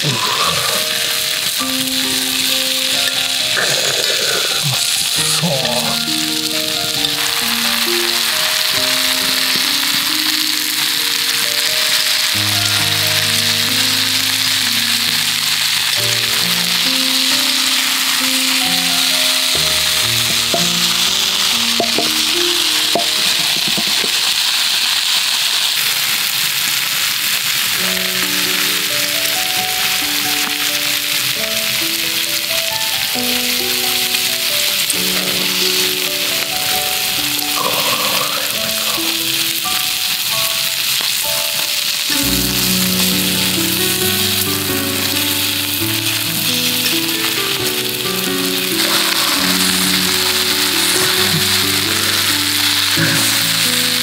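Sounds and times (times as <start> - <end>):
background music: 0.0 - 24.0, 27.8 - 54.0
food sizzling in a skillet: 0.0 - 54.0.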